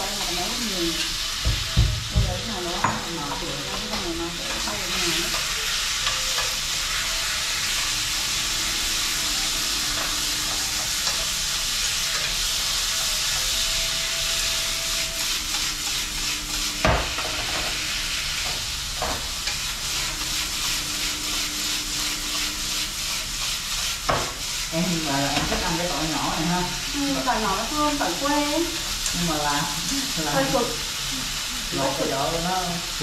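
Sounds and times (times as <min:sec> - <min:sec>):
food sizzling in pan: 0:00.0 - 0:33.0.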